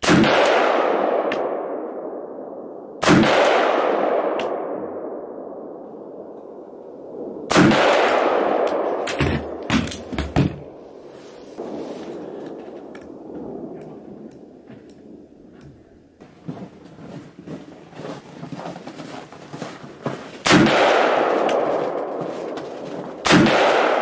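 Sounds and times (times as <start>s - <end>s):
rifle shots with echoing tail: 0.0s - 16.0s, 20.3s - 24.0s.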